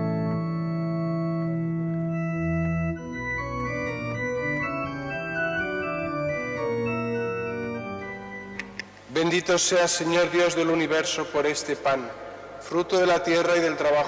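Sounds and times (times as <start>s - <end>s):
organ music: 0.0s - 14.0s.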